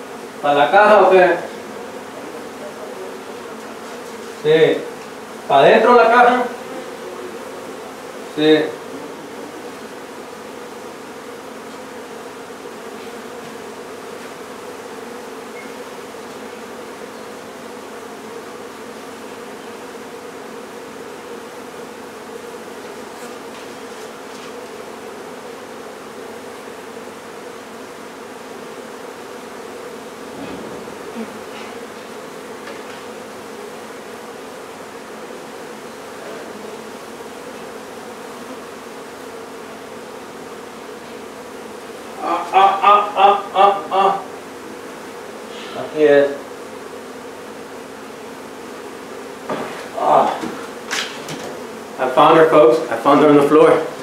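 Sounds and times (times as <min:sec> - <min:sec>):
honey bees buzzing: 0:00.0 - 0:54.0.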